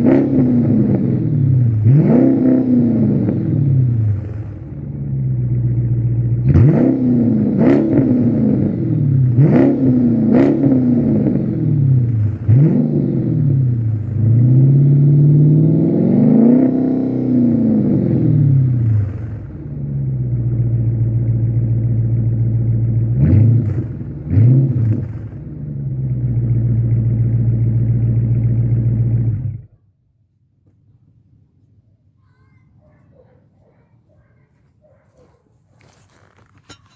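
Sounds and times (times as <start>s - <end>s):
car engine idling and revving: 0.0s - 29.8s.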